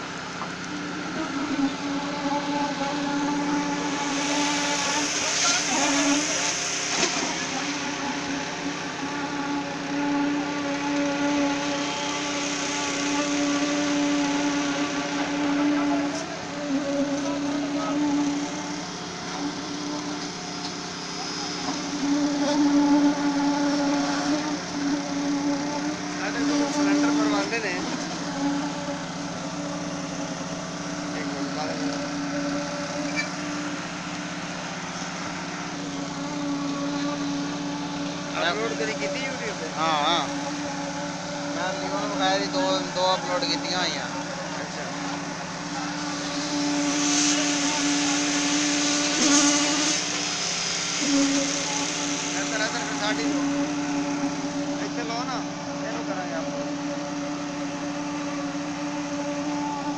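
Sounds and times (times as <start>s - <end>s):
machinery engine humming: 0.0s - 59.9s.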